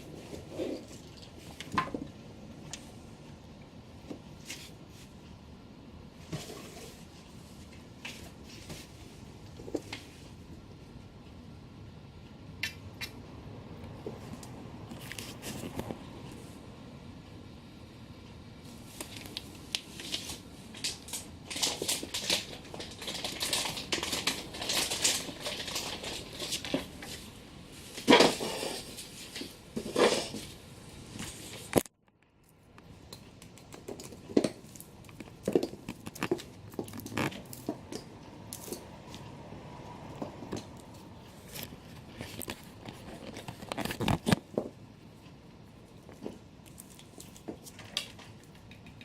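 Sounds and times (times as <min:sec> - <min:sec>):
rustling and crinkling: 0:00.0 - 0:03.4, 0:04.0 - 0:05.4, 0:06.1 - 0:10.6, 0:14.0 - 0:16.6, 0:18.6 - 0:39.3, 0:40.1 - 0:49.0.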